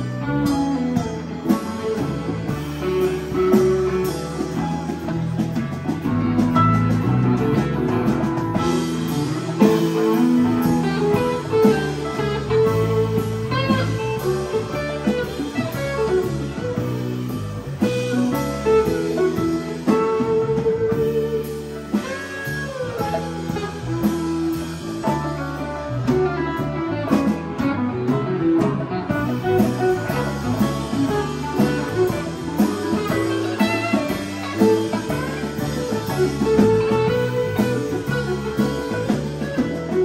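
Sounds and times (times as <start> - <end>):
drums: 0.0 - 40.0
electric bass: 0.0 - 40.0
electric guitar: 0.0 - 40.0
keyboard: 0.0 - 40.0.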